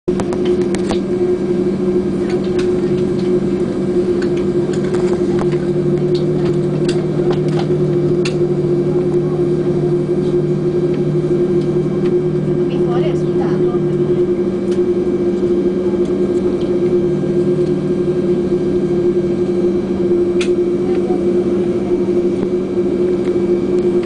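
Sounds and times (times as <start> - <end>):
aircraft engine hum: 0.1 - 24.0
low held tones: 0.1 - 24.0.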